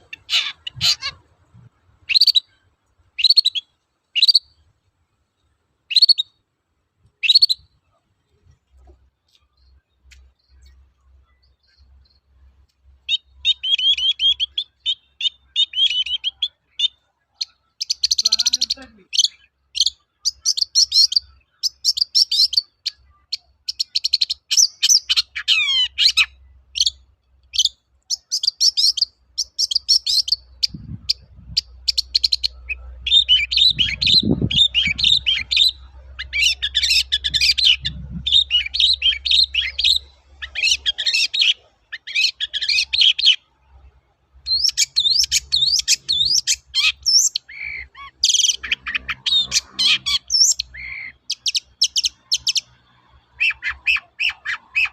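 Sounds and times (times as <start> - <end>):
bird chattering song: 0.0 - 4.6, 5.4 - 6.4, 7.2 - 8.0, 9.3 - 12.3, 13.0 - 54.9.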